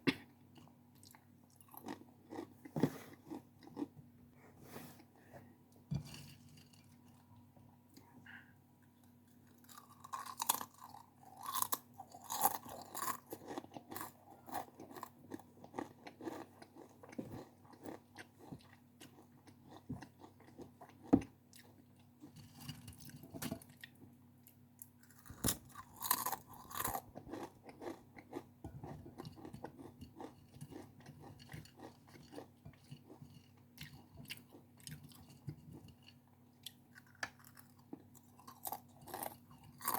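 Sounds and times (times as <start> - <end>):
crunchy chewing of crisp snack: 0.1 - 4.0, 9.0 - 39.9.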